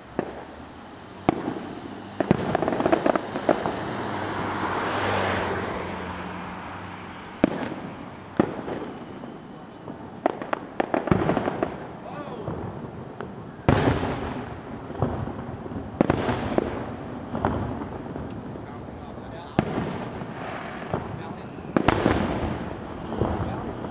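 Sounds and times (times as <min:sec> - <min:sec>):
fireworks bursting with bangs: 0:00.0 - 0:23.9.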